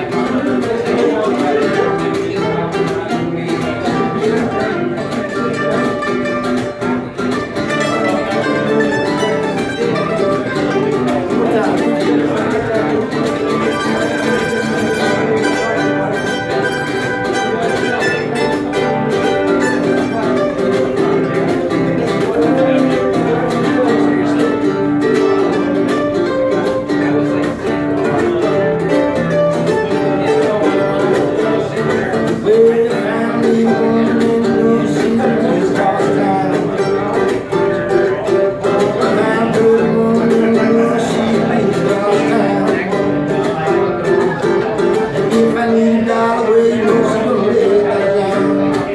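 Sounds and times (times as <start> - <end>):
mandolin picking a melody: 0.0 - 48.9
plucked string instrument: 0.0 - 48.9.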